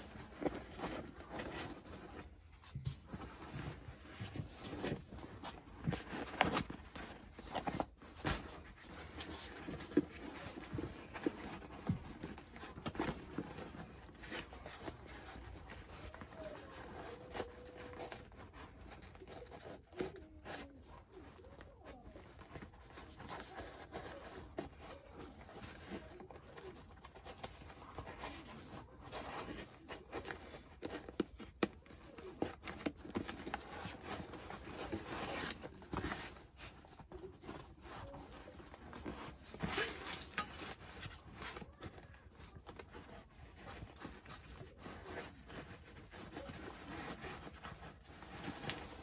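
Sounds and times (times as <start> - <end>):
vinyl cover rustling and rubbing: 0.0 - 49.0.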